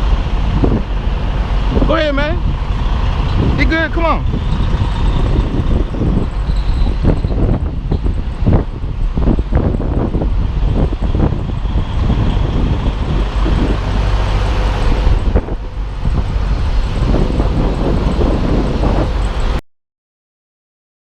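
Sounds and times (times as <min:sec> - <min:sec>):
truck engine rumble: 0:00.0 - 0:19.6.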